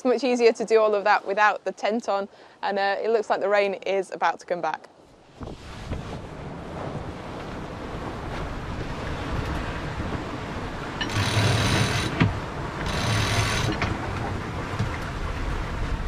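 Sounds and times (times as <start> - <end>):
wind and sea noise: 0.0 - 16.0.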